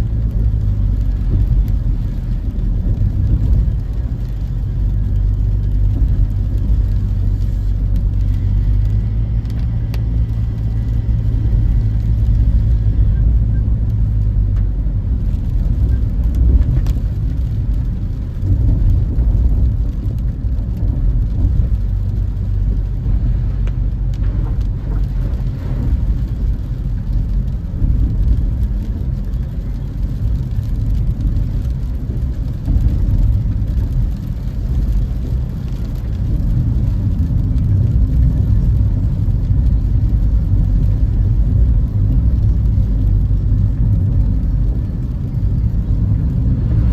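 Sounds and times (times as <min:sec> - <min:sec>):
car engine and tyre rumble: 0:00.0 - 0:46.9.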